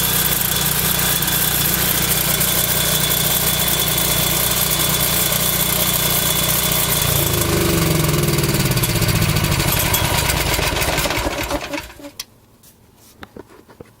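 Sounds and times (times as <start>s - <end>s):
generator engine running: 0.0s - 12.2s.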